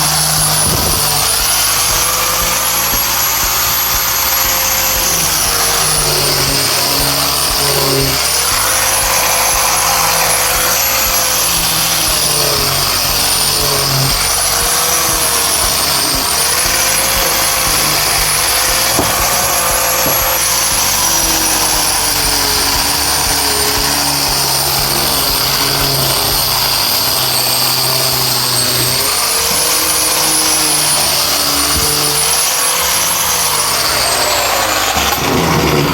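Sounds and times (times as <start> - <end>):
power tool motor whining: 0.0 - 35.9.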